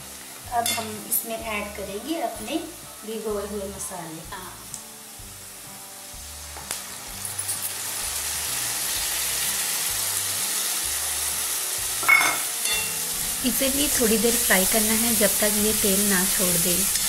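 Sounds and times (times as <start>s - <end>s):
background music: 0.0s - 17.0s
loud steady hiss of frying: 0.0s - 17.0s
onions sizzling in hot oil: 0.0s - 17.0s.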